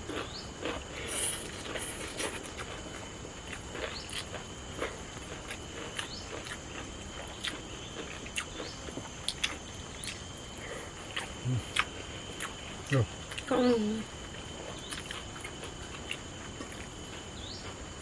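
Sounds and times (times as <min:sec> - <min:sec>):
high insect drone: 0:00.0 - 0:18.0
chewing and mouth smacks: 0:00.1 - 0:10.3, 0:11.1 - 0:13.5, 0:14.8 - 0:17.9.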